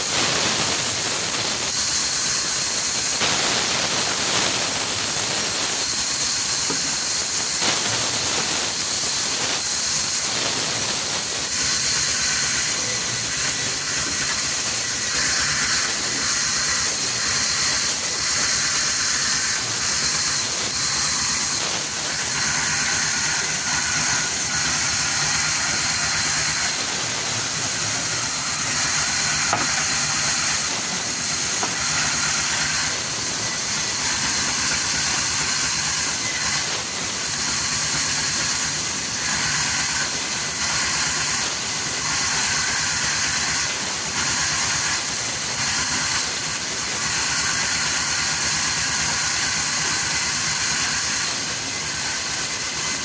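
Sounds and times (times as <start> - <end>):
machine hissing and rattling: 0.0 - 53.0.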